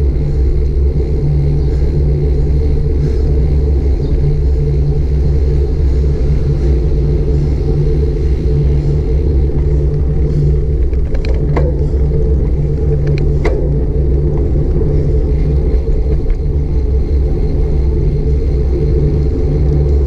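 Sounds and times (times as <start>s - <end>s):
road and tyre noise: 0.0s - 20.0s
wind buffeting microphone: 0.0s - 20.0s.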